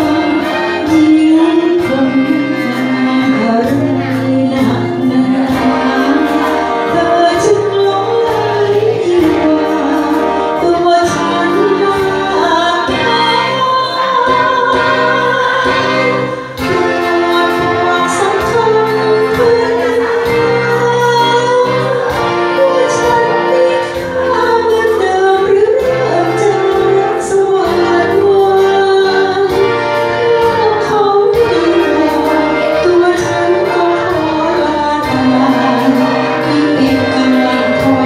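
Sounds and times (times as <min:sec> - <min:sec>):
backing music with steady beat: 0:00.0 - 0:38.0
woman singing with vibrato: 0:00.0 - 0:38.0.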